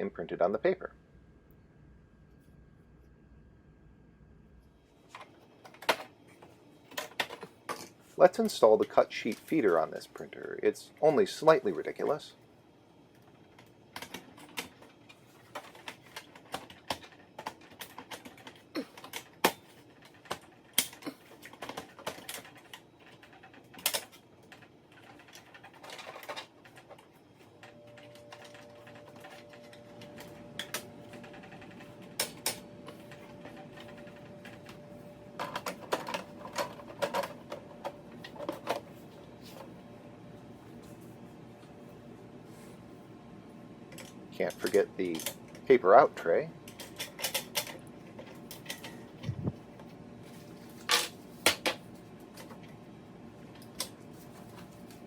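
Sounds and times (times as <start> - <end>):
faint steady low hum: 0.0 - 55.0.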